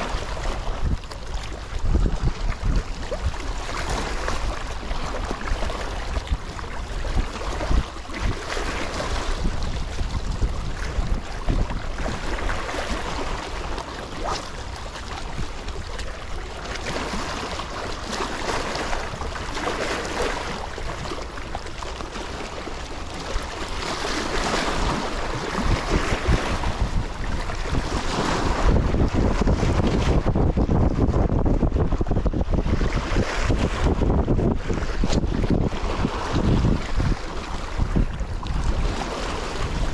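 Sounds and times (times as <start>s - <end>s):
waves splashing against rocks: 0.0s - 31.7s, 32.3s - 39.9s
wind buffeting microphone: 0.0s - 39.9s.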